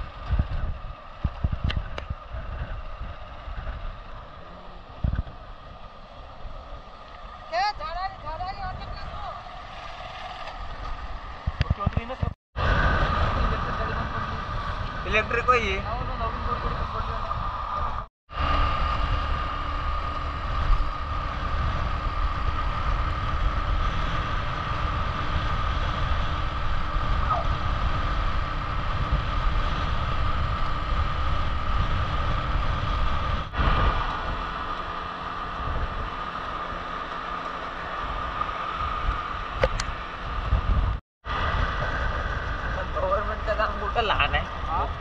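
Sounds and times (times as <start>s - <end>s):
motorcycle engine cruising: 0.0s - 45.0s
tyre noise on road: 0.0s - 45.0s
wind rushing over microphone: 0.0s - 45.0s.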